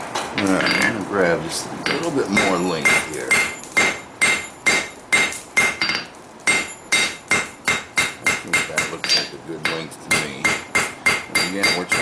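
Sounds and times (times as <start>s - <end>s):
hammer striking steel on anvil: 1.9s - 12.0s.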